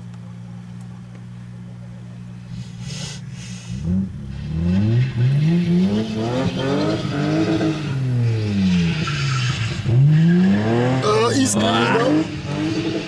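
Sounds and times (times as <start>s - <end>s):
car engine revving: 2.5s - 13.0s.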